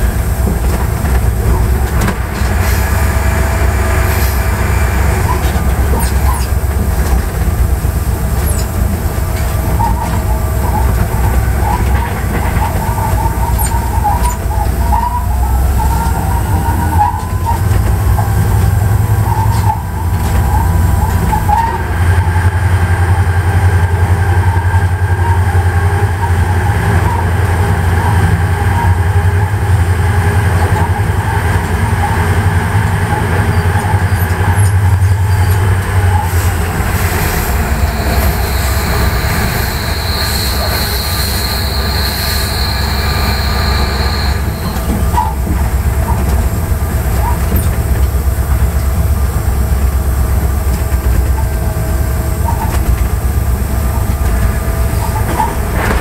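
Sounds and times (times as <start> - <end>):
diesel locomotive engine drone: 0.0 - 56.0
wheels squealing on track: 4.1 - 6.6, 8.4 - 23.2, 24.4 - 29.9, 30.6 - 48.0, 51.2 - 56.0.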